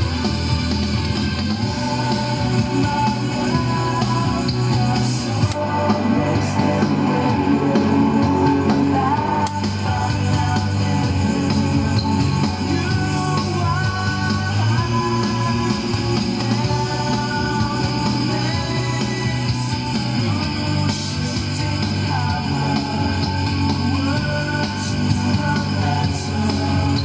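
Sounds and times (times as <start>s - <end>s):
rock song with singer and guitar: 0.0s - 27.0s.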